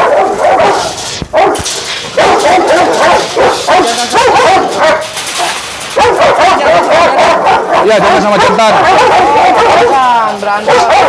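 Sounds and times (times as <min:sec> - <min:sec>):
dogs whining and barking: 0:00.0 - 0:11.0.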